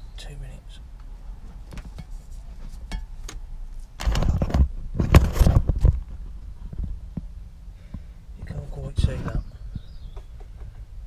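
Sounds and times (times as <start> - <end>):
rough rustling and rumbling: 1.1 - 11.0.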